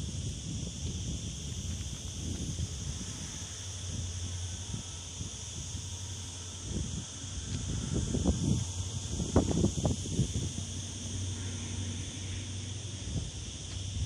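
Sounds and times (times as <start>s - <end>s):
insects buzzing: 0.0s - 14.0s
wind gusting on microphone: 0.0s - 14.0s.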